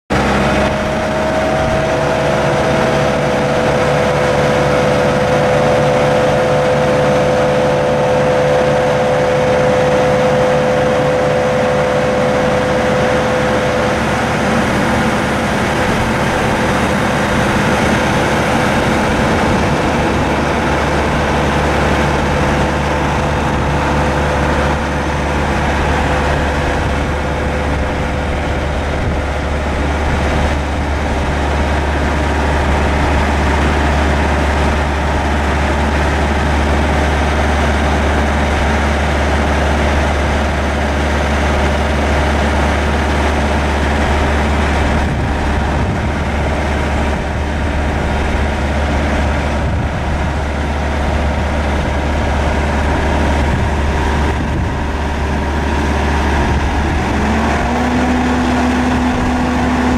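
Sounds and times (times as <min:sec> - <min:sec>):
diesel engine droning: 0:00.1 - 0:59.9.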